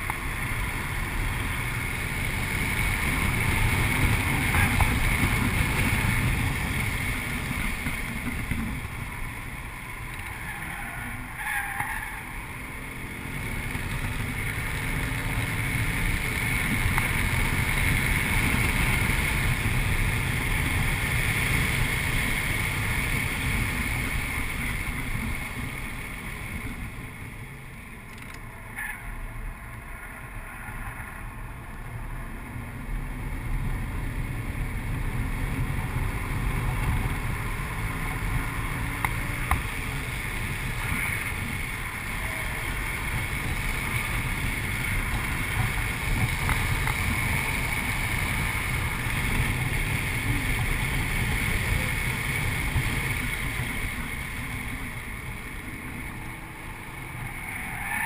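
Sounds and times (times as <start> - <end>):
car engine rumble from cabin: 0.0 - 58.0.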